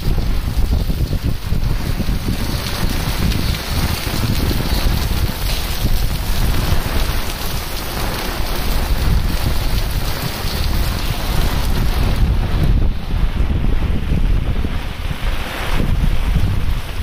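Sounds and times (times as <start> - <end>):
heavy rain pouring: 0.0 - 17.0
wind buffeting microphone: 0.0 - 17.0.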